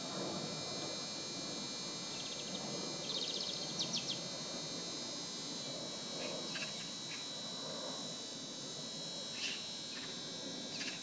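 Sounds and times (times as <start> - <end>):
high-pitched whine: 0.0 - 11.0
steady outdoor hiss: 0.0 - 11.0.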